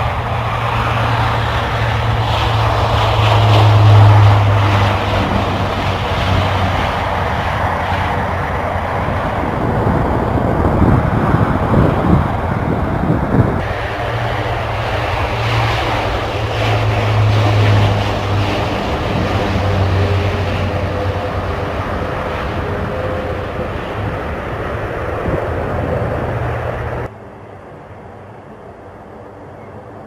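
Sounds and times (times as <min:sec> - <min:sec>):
aircraft engines low hum: 0:00.0 - 0:30.0
rushing engine noise: 0:00.0 - 0:30.0.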